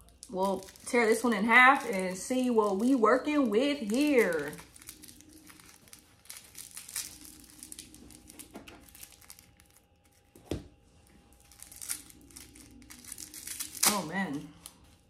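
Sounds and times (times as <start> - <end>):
plastic wrapper crinkling: 0.0 - 15.0.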